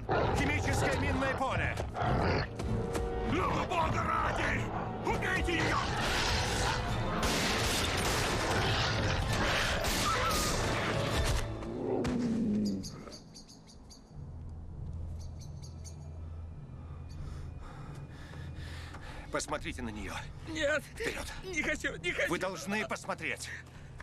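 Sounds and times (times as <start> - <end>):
low film score drone: 0.0 - 20.5.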